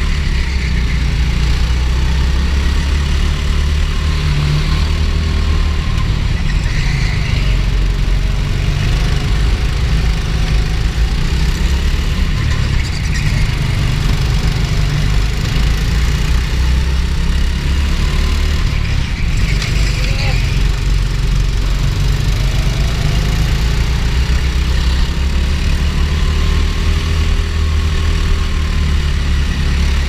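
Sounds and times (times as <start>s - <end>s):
go-kart engine running: 0.0s - 30.0s.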